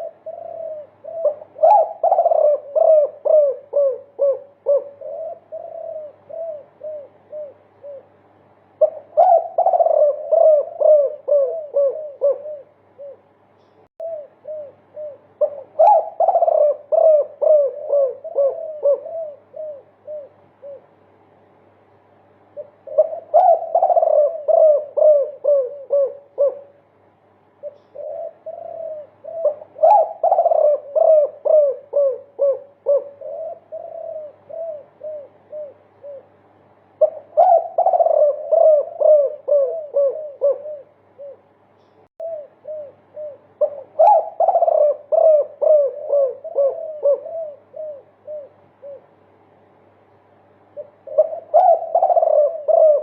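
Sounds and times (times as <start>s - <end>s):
dove cooing: 0.0s - 21.1s, 22.4s - 49.7s, 50.5s - 53.0s.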